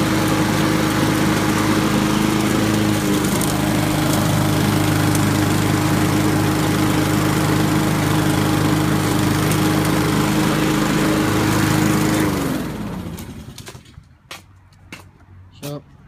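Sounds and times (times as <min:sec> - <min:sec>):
lawn mower engine running: 0:00.0 - 0:13.8.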